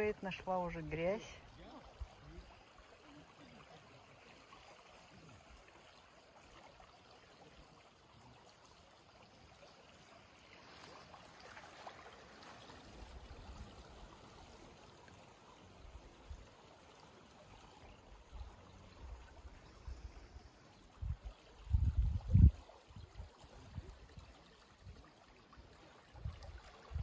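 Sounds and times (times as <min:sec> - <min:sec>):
river flowing: 0:00.0 - 0:27.0.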